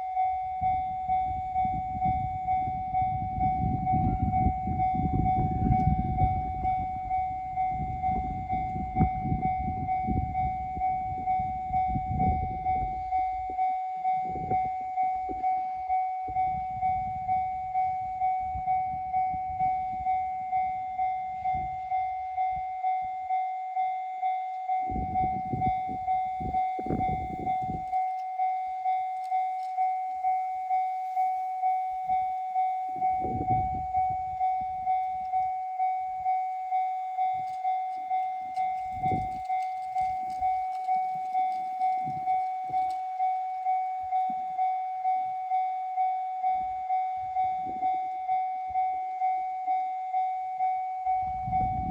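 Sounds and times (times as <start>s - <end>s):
level-crossing bell ringing: 0.0s - 51.9s.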